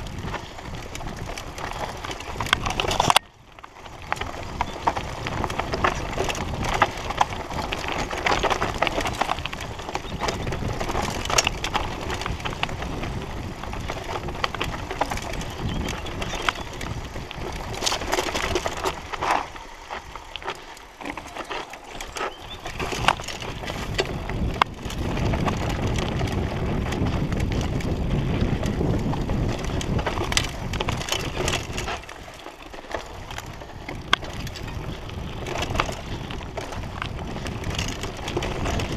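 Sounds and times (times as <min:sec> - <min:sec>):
bike clicks and clatters: 0:00.0 - 0:38.9
tyres crunching over stones: 0:00.0 - 0:38.9.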